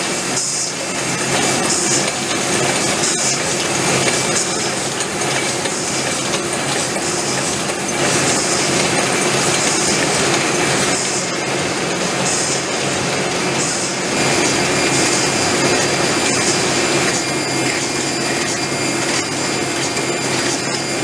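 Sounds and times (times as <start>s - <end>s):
steady machine noise: 0.0s - 21.0s.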